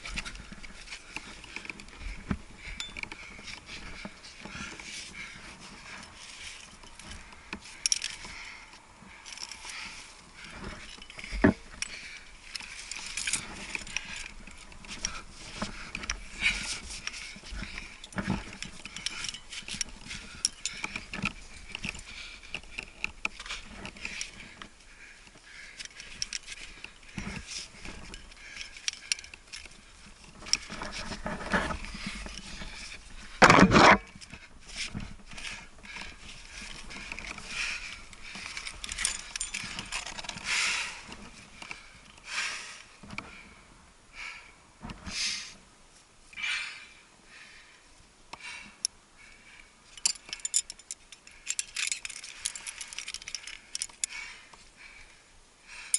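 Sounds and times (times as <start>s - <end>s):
person breathing: 0.0s - 31.0s, 34.1s - 45.6s, 46.4s - 55.9s
climbing gear clinking: 0.0s - 43.4s, 48.6s - 55.1s.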